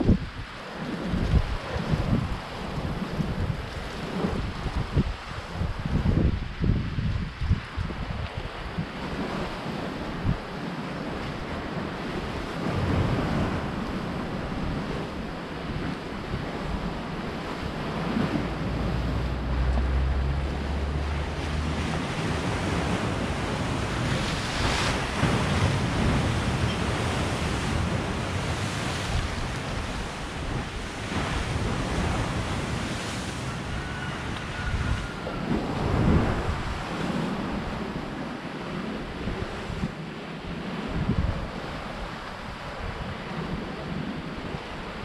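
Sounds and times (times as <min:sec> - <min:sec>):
waves breaking on shore: 0:00.0 - 0:45.0
wind buffeting microphone: 0:00.0 - 0:45.0.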